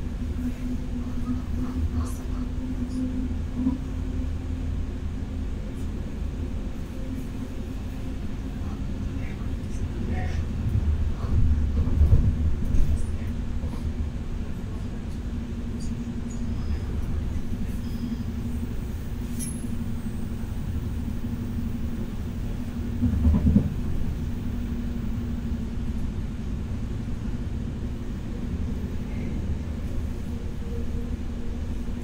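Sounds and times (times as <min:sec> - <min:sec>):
constant low hum: 0:00.0 - 0:32.0
train wheels rumbling on track: 0:00.0 - 0:32.0.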